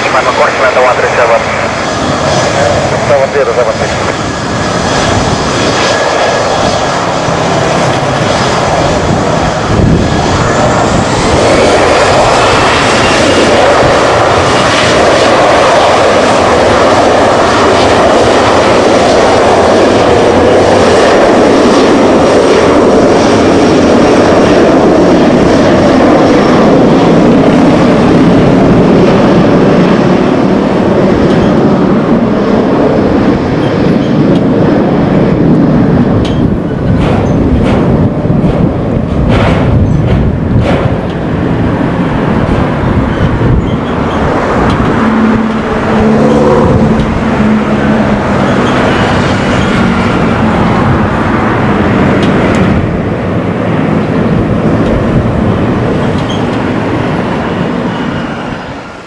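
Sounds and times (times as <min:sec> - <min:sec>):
jet engine whine: 0:00.0 - 0:59.0
jet engines roaring on take-off: 0:00.0 - 0:59.0.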